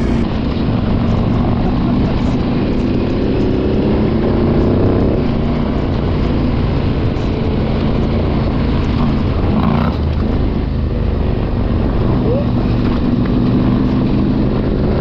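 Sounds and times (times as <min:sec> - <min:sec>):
motorcycle engine running: 0:00.0 - 0:15.0
road noise: 0:00.0 - 0:15.0
rumbling wind: 0:00.0 - 0:15.0.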